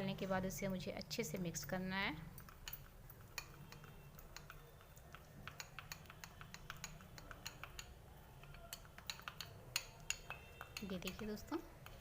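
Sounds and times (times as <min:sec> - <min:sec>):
spoon stirring in glass bowl: 0:02.2 - 0:12.0.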